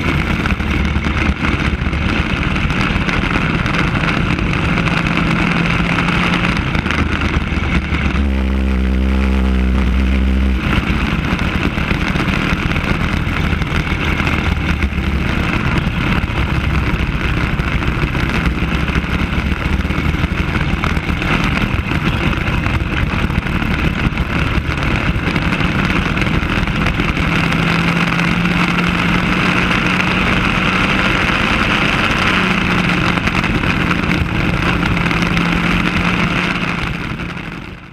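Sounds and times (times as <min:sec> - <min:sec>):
kart engine running: 0:00.0 - 0:37.9.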